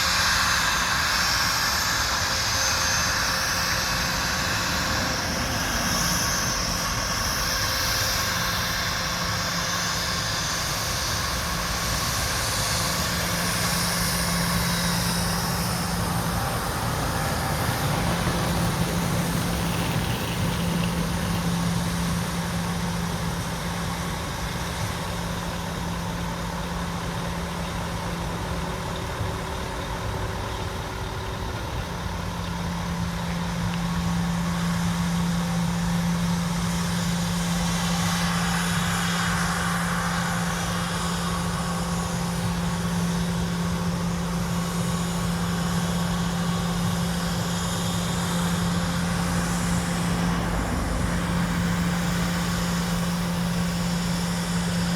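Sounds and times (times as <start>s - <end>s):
jet engines idling hum: 0.0s - 54.9s.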